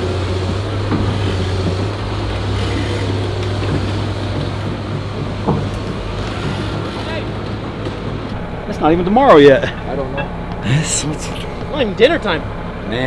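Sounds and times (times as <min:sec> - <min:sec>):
excavator diesel engines running: 0:00.0 - 0:13.0.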